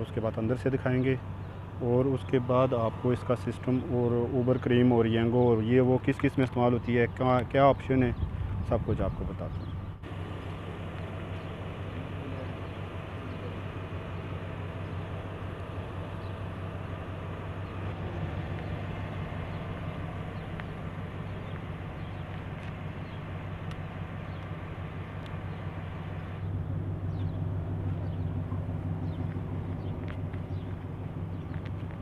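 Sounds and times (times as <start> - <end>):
car engine idling: 0.0 - 8.7, 9.4 - 32.0.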